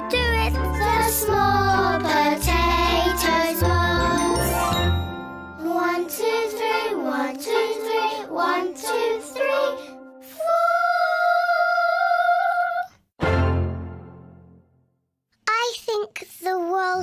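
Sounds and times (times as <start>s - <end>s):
sung children's waltz song: 0.0s - 14.7s.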